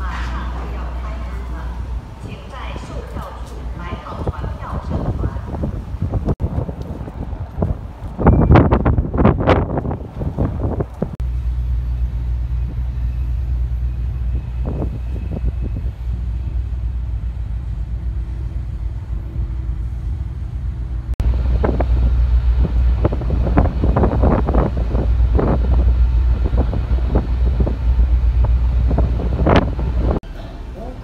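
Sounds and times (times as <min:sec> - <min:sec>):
wind buffeting microphone: 0:00.0 - 0:11.2, 0:12.6 - 0:30.3
ferry engines rumbling: 0:00.0 - 0:31.0.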